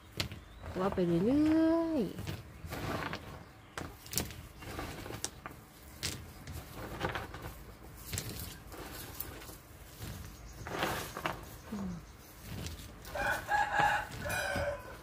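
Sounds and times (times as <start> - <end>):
plastic mesh bag rustling: 0.0 - 15.0.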